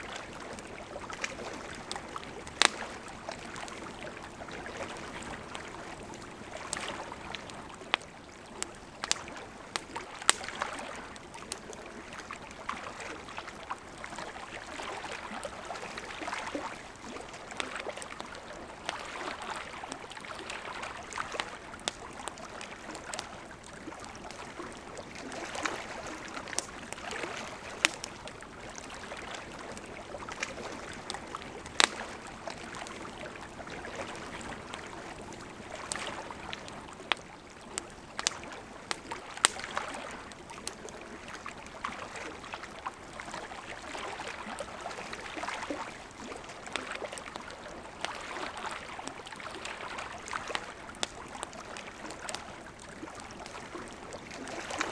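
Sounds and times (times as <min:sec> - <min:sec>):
campfire crackling and hissing: 0:00.0 - 0:54.9.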